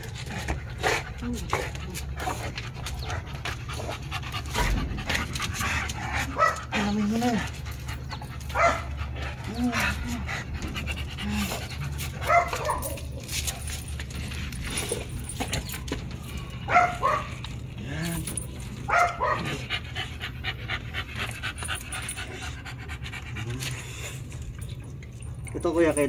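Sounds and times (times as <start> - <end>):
dogs panting: 0.0 - 26.0.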